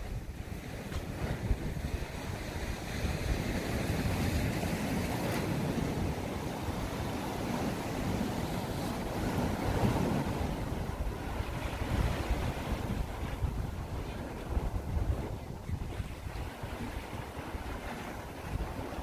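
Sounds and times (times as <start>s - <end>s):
waves washing against rocks: 0.0s - 19.0s
wind buffeting microphone: 0.0s - 19.0s.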